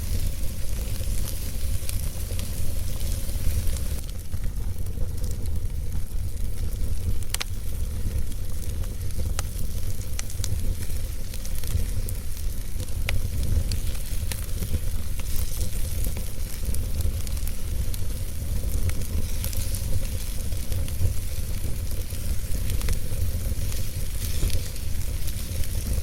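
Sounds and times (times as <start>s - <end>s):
burning logs crackling and popping: 0.0s - 26.0s
fire flames rumbling: 0.0s - 26.0s
fire hissing: 0.0s - 26.0s.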